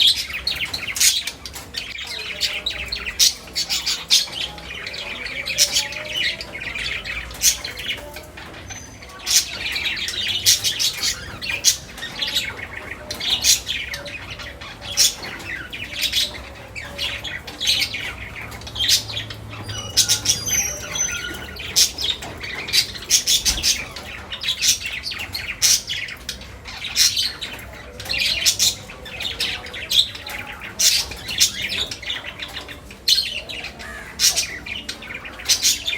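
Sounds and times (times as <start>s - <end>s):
budgerigars chattering: 0.0s - 35.9s.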